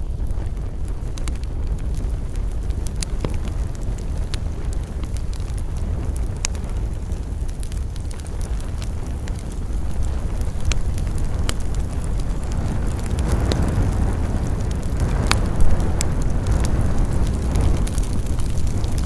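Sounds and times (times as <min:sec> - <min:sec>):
campfire flames rushing: 0:00.0 - 0:19.0
fire crackles and pops: 0:00.0 - 0:19.0.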